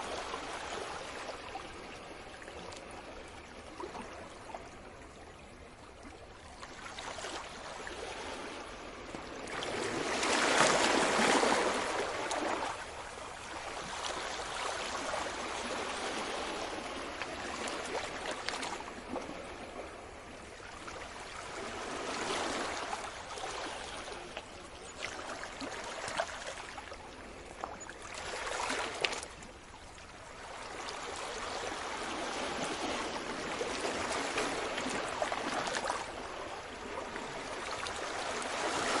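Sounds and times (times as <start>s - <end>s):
sea waves washing onto shore: 7.0s - 29.7s, 30.3s - 39.0s.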